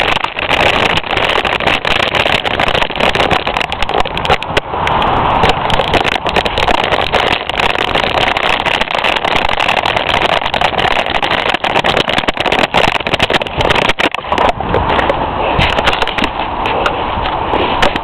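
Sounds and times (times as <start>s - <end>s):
bike rattling and knocking: 0.0s - 18.0s
bike tyres rushing on dirt: 0.0s - 18.0s.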